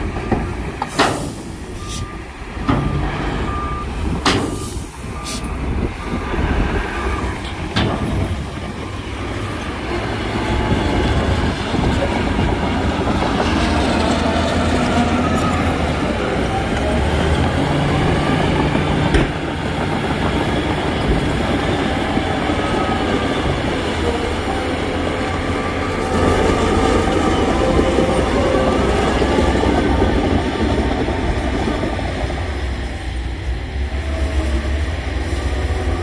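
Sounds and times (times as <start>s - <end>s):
bulldozer diesel engine under load: 0.0s - 36.0s
steel tracks clanking and squealing: 0.0s - 36.0s.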